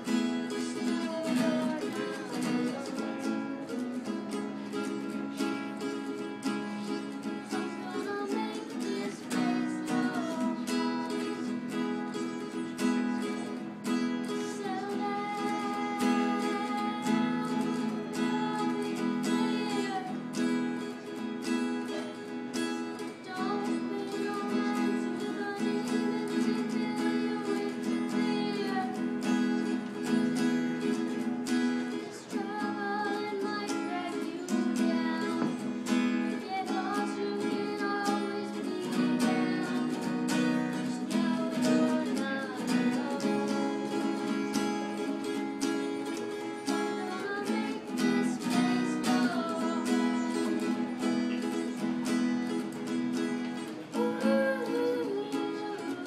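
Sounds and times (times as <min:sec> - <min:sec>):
acoustic guitar strumming chords: 0:00.0 - 0:56.0
young person singing: 0:00.0 - 0:56.0.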